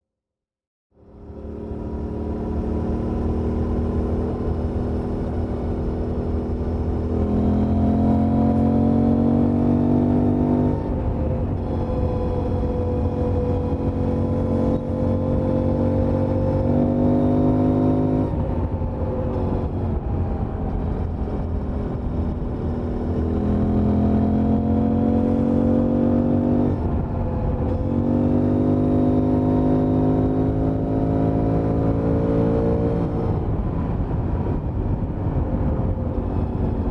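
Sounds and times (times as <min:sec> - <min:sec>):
motorcycle engine accelerating: 0:01.0 - 0:36.9
wind noise: 0:02.0 - 0:36.9.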